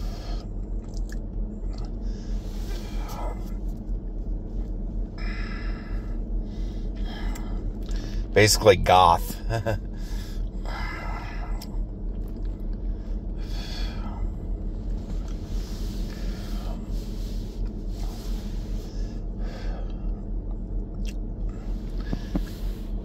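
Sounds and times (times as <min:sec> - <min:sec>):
car cabin rumble: 0:00.0 - 0:23.0.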